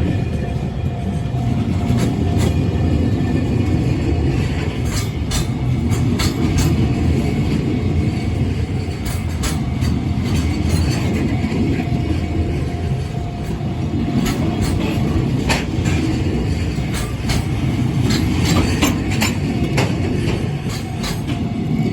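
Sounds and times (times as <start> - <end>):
freight train rumble: 0.0 - 21.9
wheels clacking on rail joints: 0.0 - 21.9.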